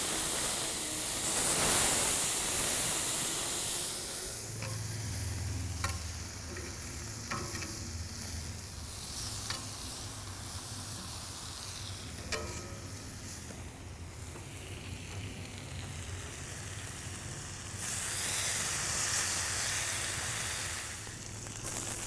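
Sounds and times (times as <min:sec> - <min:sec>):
bacon sizzling on a griddle: 0:00.0 - 0:22.0.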